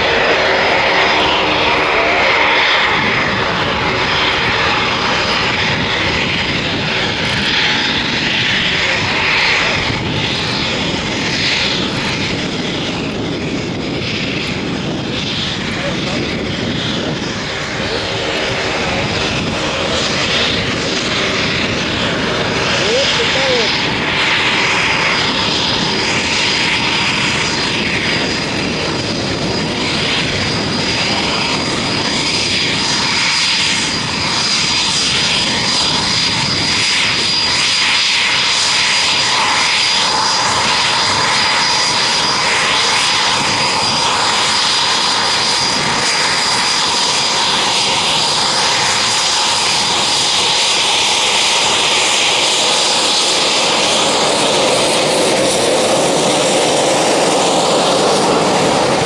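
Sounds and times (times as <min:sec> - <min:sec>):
aircraft engine running: 0:00.0 - 0:59.0.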